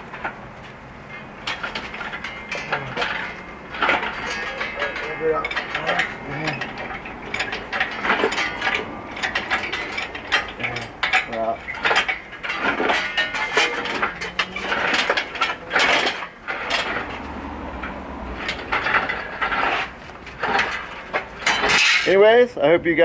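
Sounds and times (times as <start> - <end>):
engine hoist clicks and clanks: 0.0 - 23.0.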